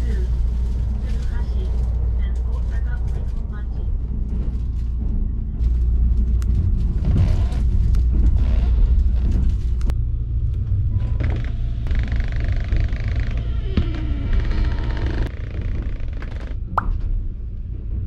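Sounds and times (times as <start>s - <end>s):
train running low rumble: 0.0s - 18.0s.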